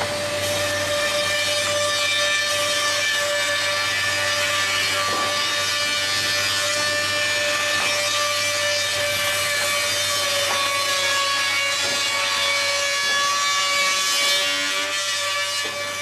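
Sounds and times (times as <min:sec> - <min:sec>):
wood planer whining: 0:00.0 - 0:16.0.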